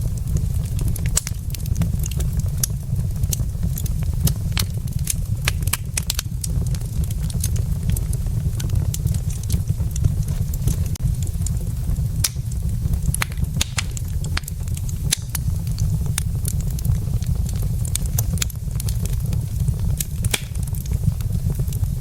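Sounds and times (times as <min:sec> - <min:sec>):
logs crackling in a fireplace: 0:00.0 - 0:22.0.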